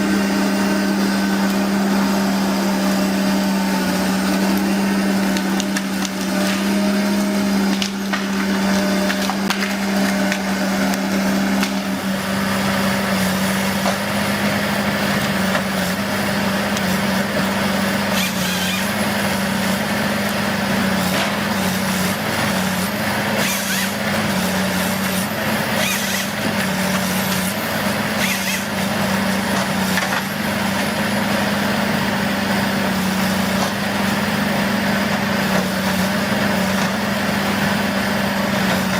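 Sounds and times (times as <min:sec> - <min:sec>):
woodworking machinery running: 0:00.0 - 0:38.9.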